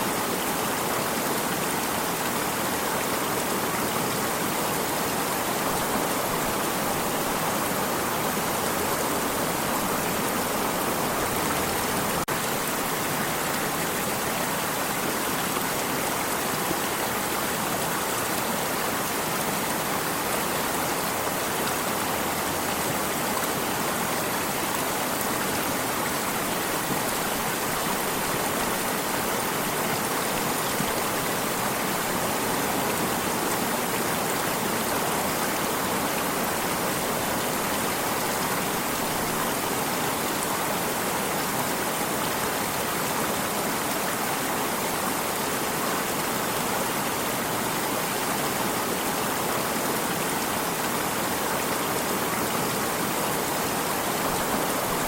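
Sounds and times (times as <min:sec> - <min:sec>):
stream of water rushing: 0:00.0 - 0:55.0.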